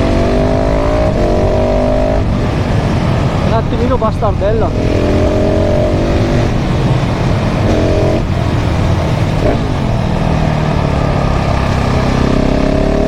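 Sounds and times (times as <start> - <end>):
motorcycle engine accelerating: 0.0 - 3.7, 4.6 - 13.0.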